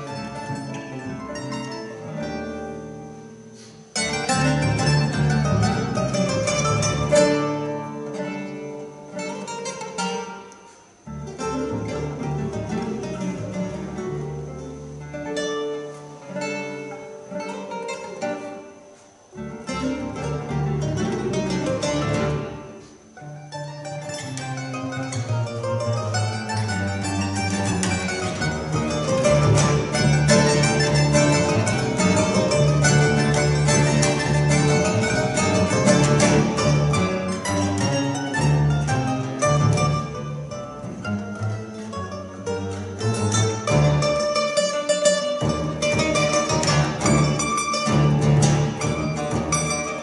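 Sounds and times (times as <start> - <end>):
double bass: 0.0 - 18.7, 19.3 - 50.0
acoustic guitar: 0.0 - 50.0
mandolin: 0.0 - 50.0.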